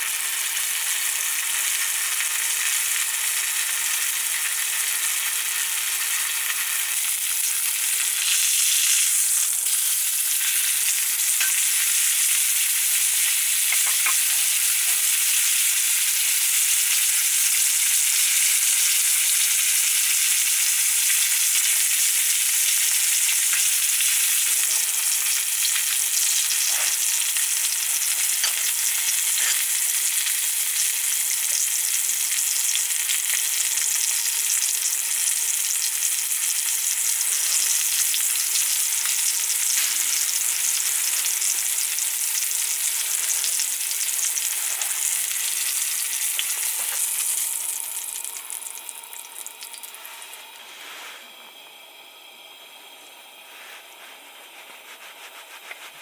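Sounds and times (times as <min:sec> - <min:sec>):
food sizzling in a pan: 0:00.0 - 0:50.6.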